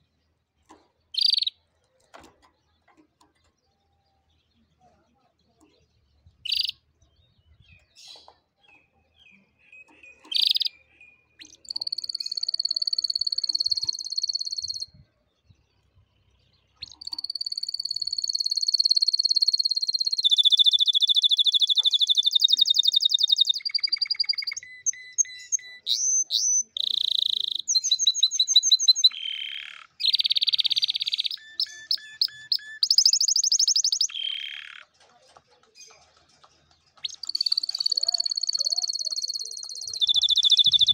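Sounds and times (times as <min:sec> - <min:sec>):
canary singing: 0:00.7 - 0:04.6, 0:06.0 - 0:15.0, 0:16.4 - 0:34.9, 0:37.0 - 0:40.9.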